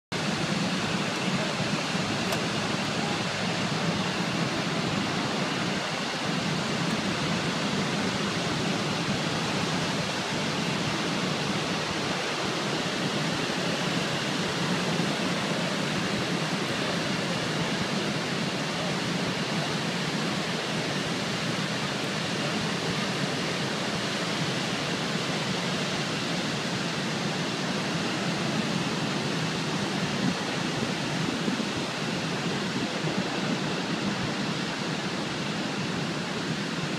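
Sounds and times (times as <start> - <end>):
waterfall rushing: 0.1 - 36.9.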